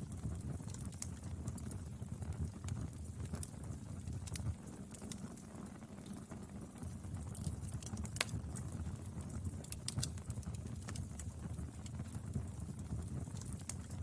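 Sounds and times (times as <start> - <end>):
firewood crackles and pops: 0.0 - 14.0
low rumble of flames: 0.0 - 14.0.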